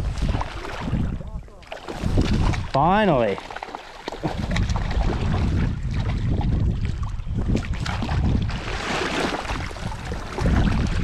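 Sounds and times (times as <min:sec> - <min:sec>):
wind buffeting microphone: 0:00.0 - 0:03.4, 0:04.1 - 0:11.0.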